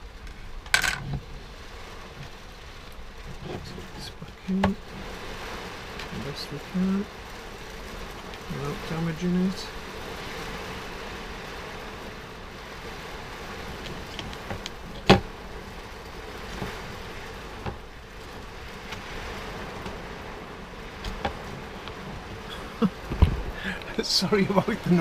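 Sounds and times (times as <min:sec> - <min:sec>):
heavy rain on caravan roof: 0:00.0 - 0:25.0.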